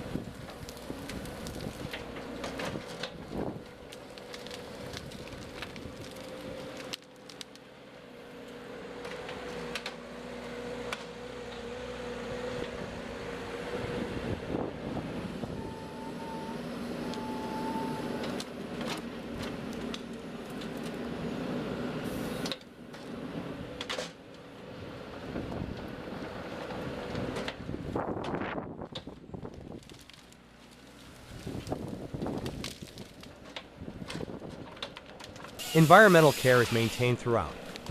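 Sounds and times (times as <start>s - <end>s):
diesel engine and hydraulics humming: 0.0s - 37.9s.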